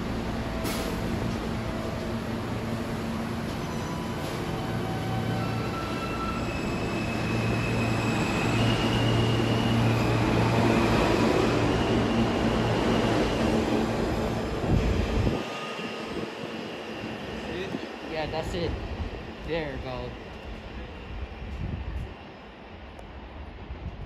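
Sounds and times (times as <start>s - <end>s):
distant train rumble: 0.0s - 24.0s
train wheels rumbling on rail: 0.0s - 24.0s.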